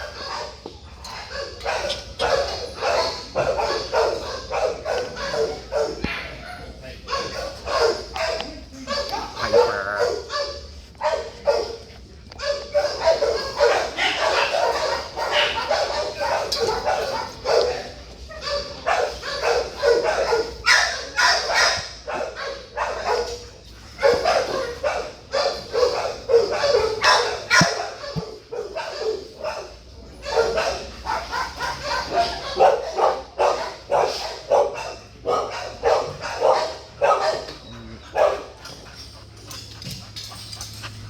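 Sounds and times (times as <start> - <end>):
dogs barking and yipping: 0.0 - 41.0.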